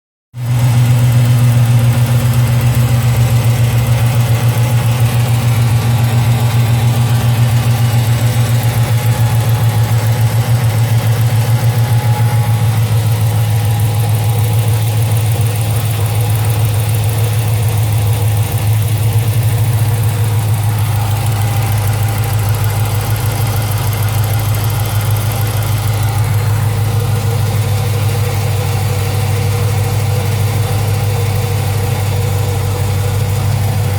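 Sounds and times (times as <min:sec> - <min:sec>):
car engine idling: 0:00.4 - 0:33.9
engine ticking: 0:00.4 - 0:33.9.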